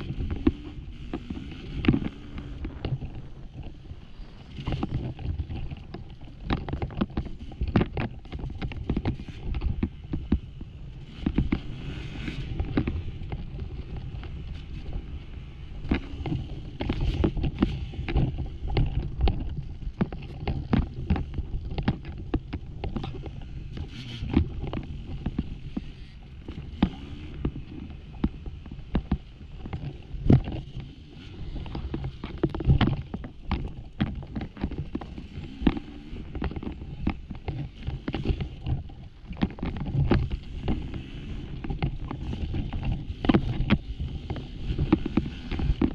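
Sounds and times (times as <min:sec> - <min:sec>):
dirt bike engine running: 0:00.0 - 0:45.9
knocks and clatter on rocky ground: 0:00.0 - 0:45.9.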